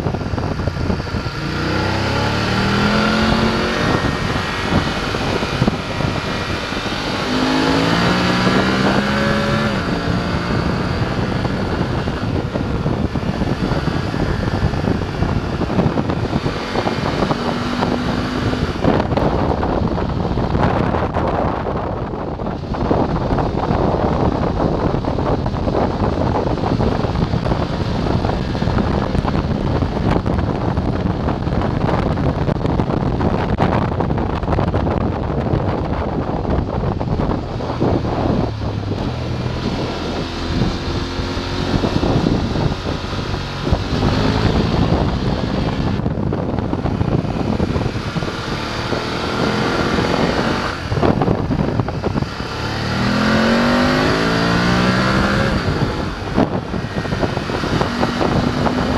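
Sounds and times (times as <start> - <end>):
motorcycle engine accelerating: 0.0 - 58.9
wind rushing over microphone: 0.0 - 58.9.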